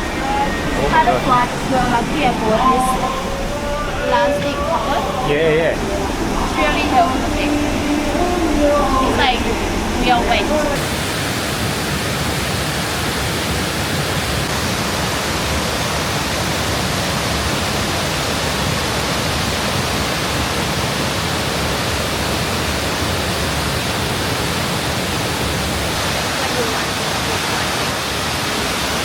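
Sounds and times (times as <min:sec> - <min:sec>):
heavy rain: 0:00.0 - 0:29.0
waterfall rushing: 0:00.0 - 0:29.0.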